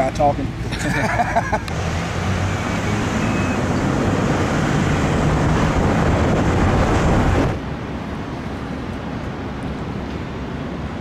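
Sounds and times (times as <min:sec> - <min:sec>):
highway traffic rushing past: 0:00.0 - 0:11.0
low engine hum: 0:00.0 - 0:11.0.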